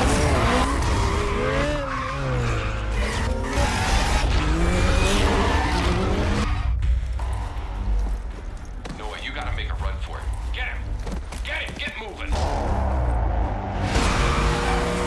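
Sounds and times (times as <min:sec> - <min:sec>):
car engines revving: 0:00.0 - 0:10.4, 0:12.3 - 0:15.0.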